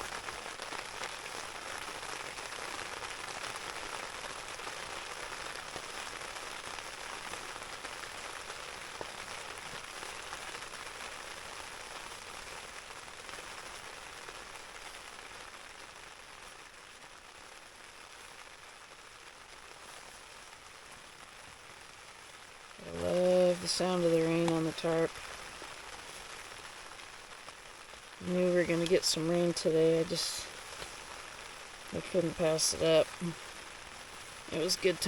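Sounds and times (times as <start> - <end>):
rain pattering on a tarp: 0.0 - 35.0.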